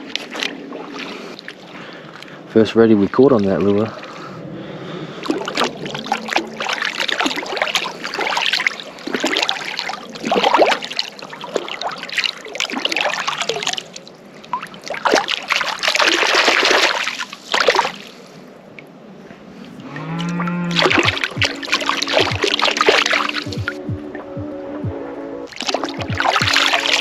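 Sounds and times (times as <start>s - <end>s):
water splashing and trickling: 0.0s - 19.0s, 19.6s - 24.3s, 25.5s - 27.0s.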